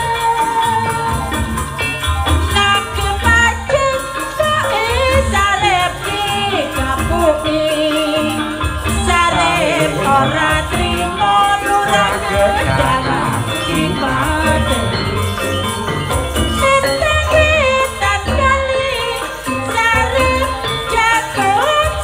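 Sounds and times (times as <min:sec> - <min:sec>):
woman singing: 0:00.0 - 0:15.8, 0:16.4 - 0:22.0
rattling percussion: 0:00.0 - 0:22.0.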